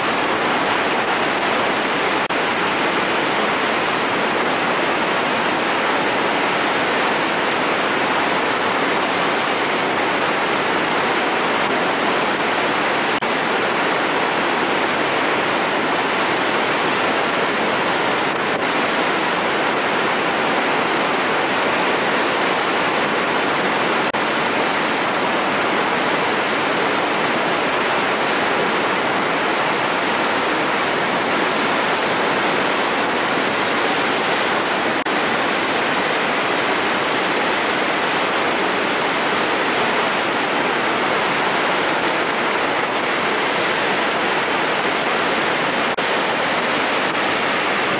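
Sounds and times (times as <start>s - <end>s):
water rushing: 0.0s - 47.9s.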